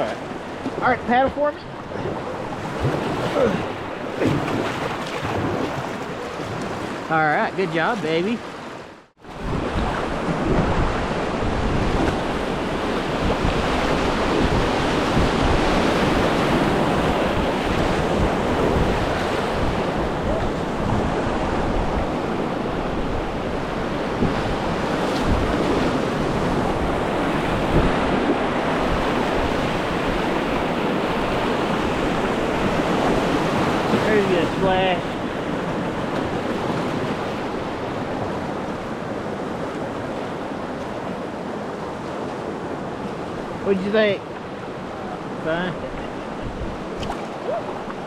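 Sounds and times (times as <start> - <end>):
ocean surf rushing: 0.0 - 48.0
wind buffeting microphone: 9.2 - 48.0.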